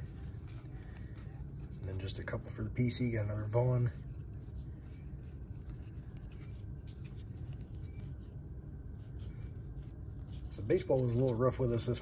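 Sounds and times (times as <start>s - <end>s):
low steady hum: 0.0s - 12.0s
trading cards shuffling: 0.0s - 12.0s.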